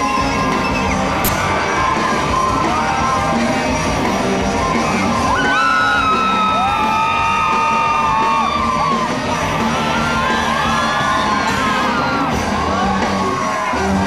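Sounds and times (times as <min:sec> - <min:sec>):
crowd yelling and whooping: 0:00.0 - 0:14.0.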